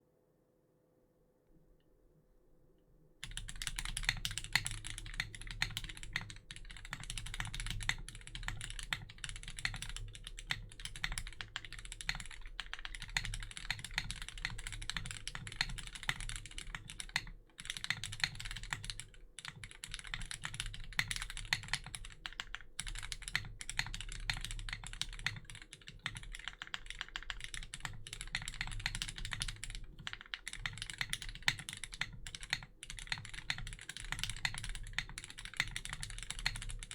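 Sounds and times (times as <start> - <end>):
fast mechanical keyboard typing: 3.2 - 36.9.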